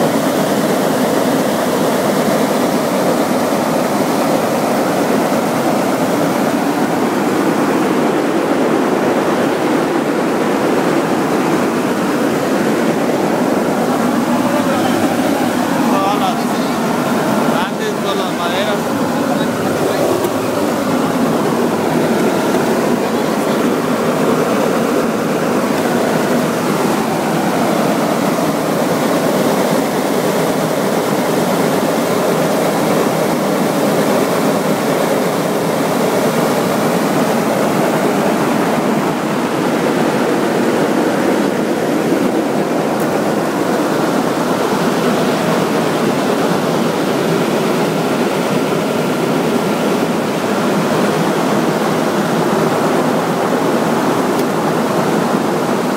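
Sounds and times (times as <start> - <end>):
machinery drone: 0.0 - 55.9.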